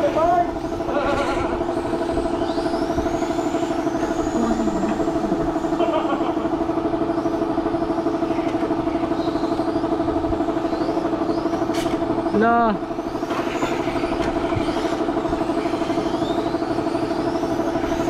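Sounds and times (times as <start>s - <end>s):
pulsing mechanical drone: 0.0s - 18.0s
rc car motors whining: 0.0s - 18.0s.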